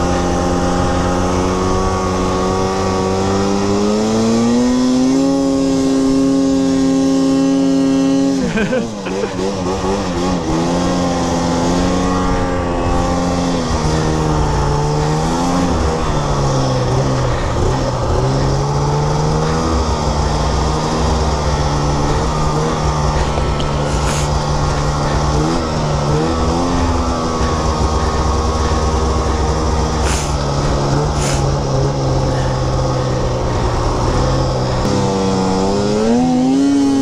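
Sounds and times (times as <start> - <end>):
snowmobile engine revving: 0.0 - 37.0.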